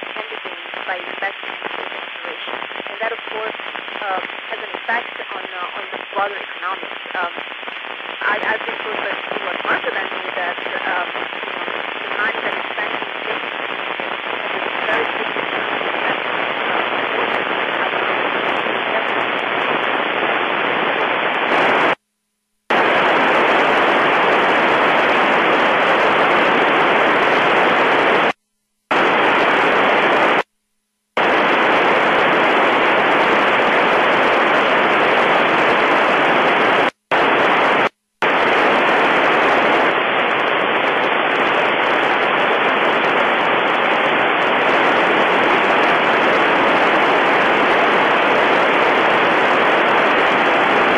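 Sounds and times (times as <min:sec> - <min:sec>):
radio static hiss: 0:00.0 - 0:22.0, 0:22.6 - 0:30.5, 0:31.1 - 0:50.9.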